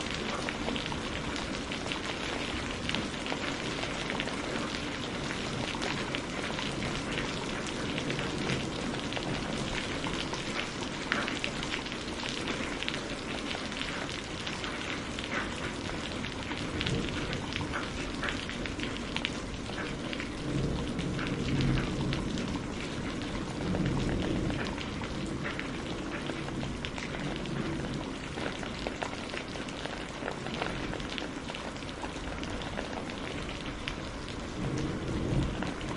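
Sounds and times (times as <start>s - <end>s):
distant thunder rumbles: 0.0s - 35.9s
heavy rain pattering: 0.0s - 35.9s.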